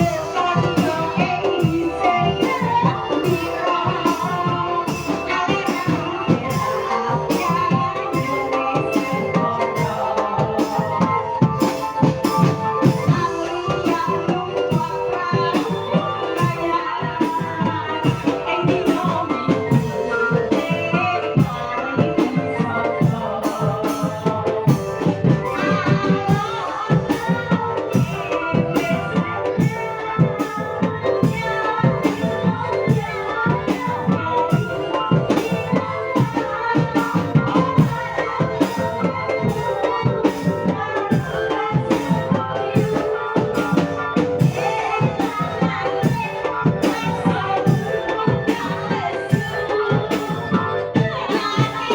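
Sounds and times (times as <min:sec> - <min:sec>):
lively music with drum beat: 0:00.0 - 0:51.9.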